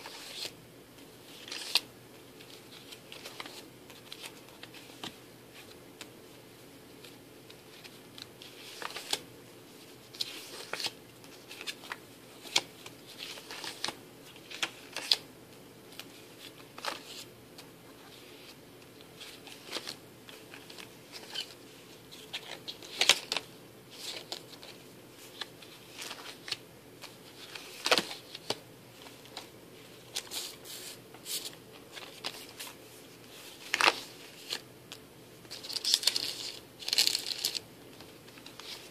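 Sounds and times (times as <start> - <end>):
paper pages rustling and turning: 0.0 - 0.6, 1.2 - 6.1, 7.0 - 9.2, 9.8 - 15.2, 15.9 - 34.7, 35.4 - 38.9.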